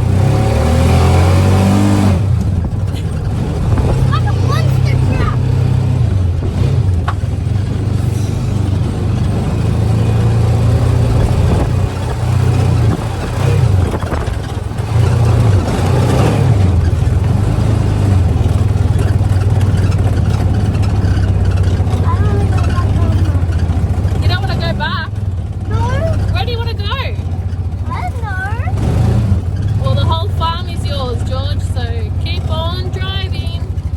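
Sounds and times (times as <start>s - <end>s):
buggy engine running: 0.0s - 33.9s.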